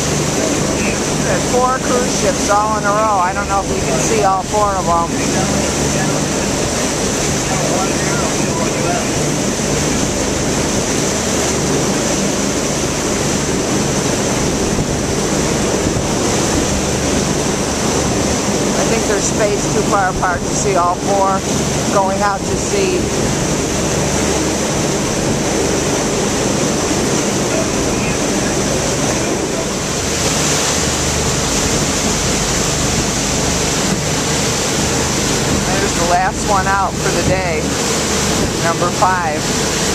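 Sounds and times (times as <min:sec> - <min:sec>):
low engine drone: 0:00.0 - 0:39.9
water rushing in ship wake: 0:00.0 - 0:39.9
wind on microphone: 0:00.0 - 0:39.9.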